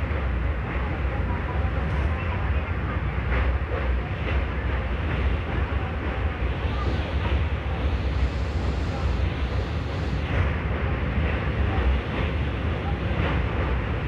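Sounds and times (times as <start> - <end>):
train wheels rumbling on bridge: 0.0 - 14.0.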